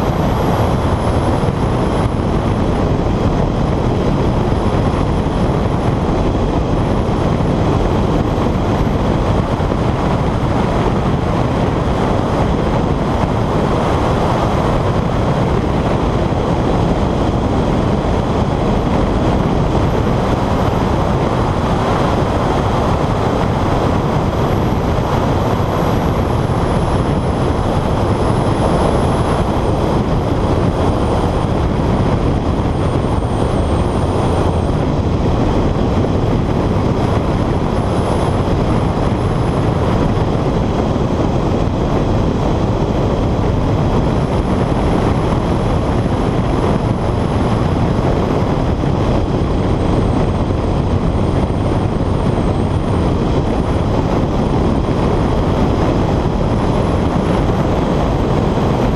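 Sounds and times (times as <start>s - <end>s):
car engine and tyre noise: 0.0s - 58.9s
wind rushing: 0.0s - 58.9s.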